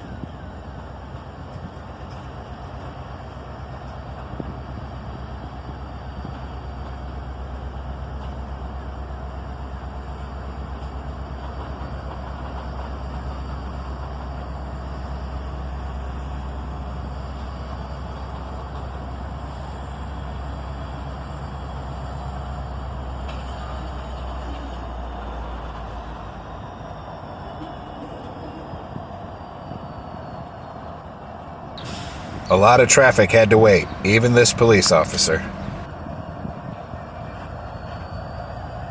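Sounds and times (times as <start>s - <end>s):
diesel locomotives rumbling: 0.0s - 38.9s.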